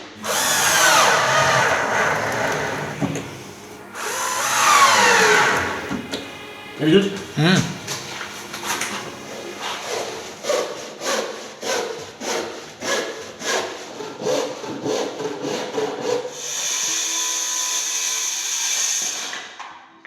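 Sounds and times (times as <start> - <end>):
handsaw cutting timber: 0.1 - 16.9.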